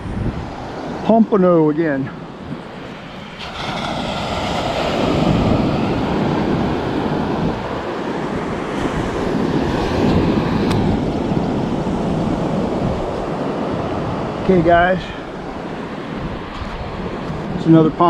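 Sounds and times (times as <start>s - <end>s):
surf washing onto beach: 0.0s - 18.0s
wind rushing over microphone: 0.0s - 18.0s.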